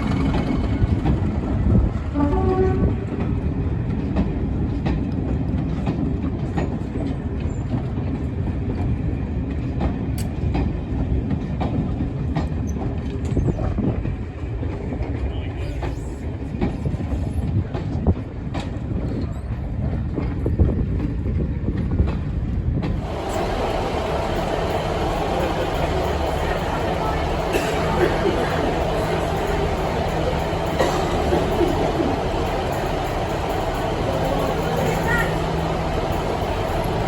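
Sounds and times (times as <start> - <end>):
train rumbling on rails: 0.0 - 37.0
wheels clicking on track: 0.0 - 37.0.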